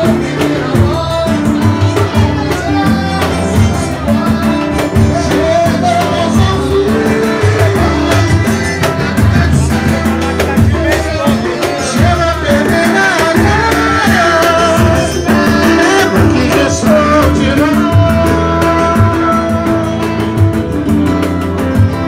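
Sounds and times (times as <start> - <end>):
person singing: 0.0 - 21.3
hand drums: 0.0 - 22.0.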